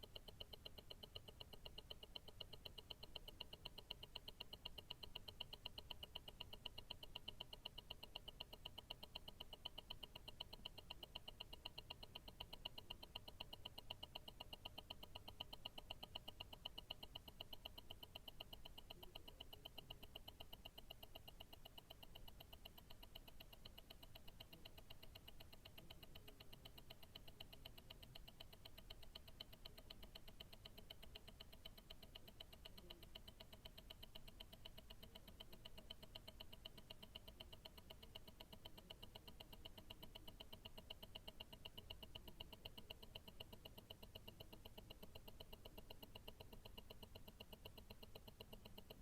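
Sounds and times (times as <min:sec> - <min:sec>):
watch ticking: 0:00.0 - 0:49.0.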